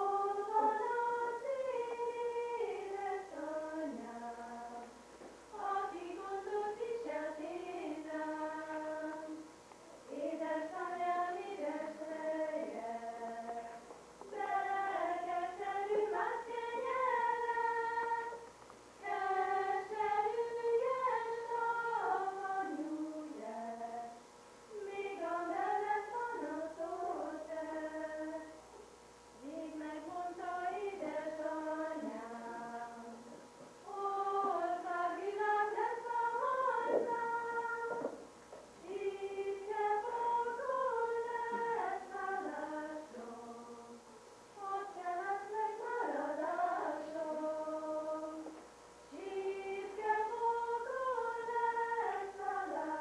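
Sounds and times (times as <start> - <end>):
women singing in unison: 0.0 - 9.5, 10.1 - 28.6, 29.4 - 53.0.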